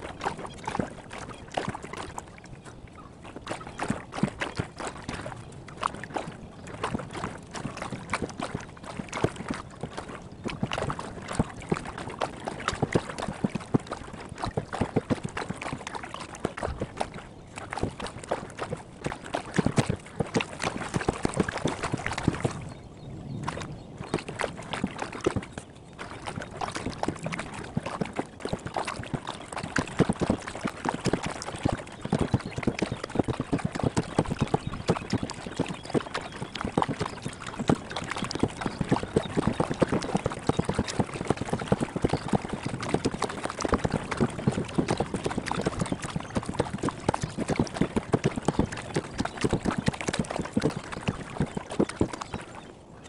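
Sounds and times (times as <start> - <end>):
paddle strokes splashing: 0.0 - 53.0.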